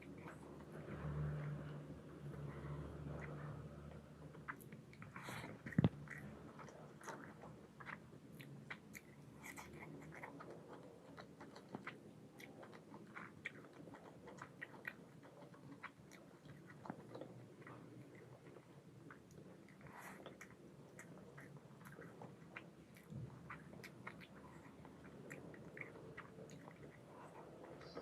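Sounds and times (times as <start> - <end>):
person chewing food: 2.8 - 28.0.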